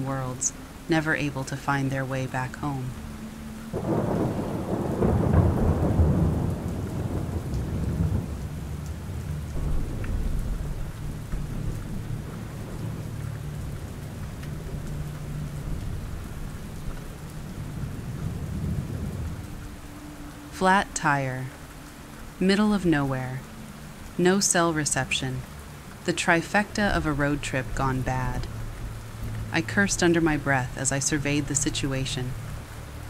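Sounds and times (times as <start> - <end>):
steady rain: 0.0 - 33.0
thunder rumbling: 2.0 - 33.0.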